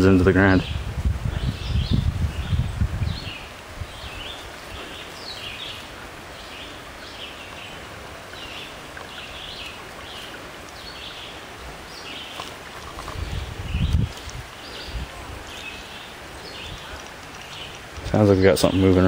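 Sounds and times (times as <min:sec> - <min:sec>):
stream babbling over rocks: 0:01.1 - 0:19.0.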